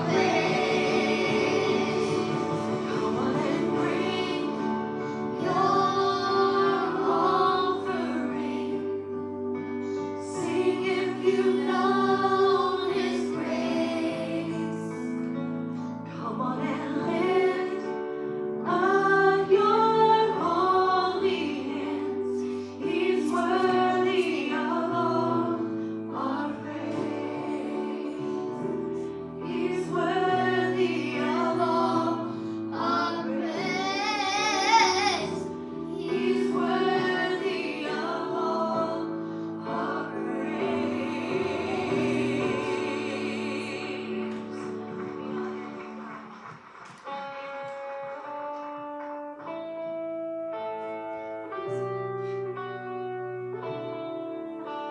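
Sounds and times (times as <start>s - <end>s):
group singing a hymn: 0.0s - 46.1s.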